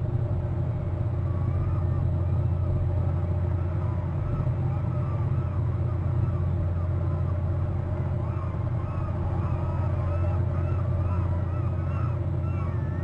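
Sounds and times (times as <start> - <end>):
motorboat engine drone: 0.0 - 13.0
birds chirping: 1.2 - 13.0.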